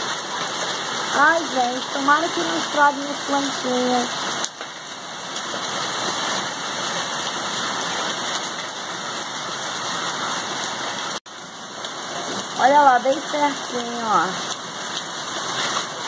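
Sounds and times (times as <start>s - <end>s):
hail and rain pelting: 0.0s - 16.0s.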